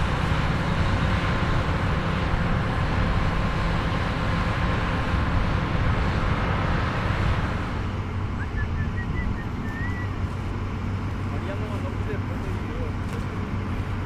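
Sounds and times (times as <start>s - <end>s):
combine engine running under load: 0.0s - 14.0s.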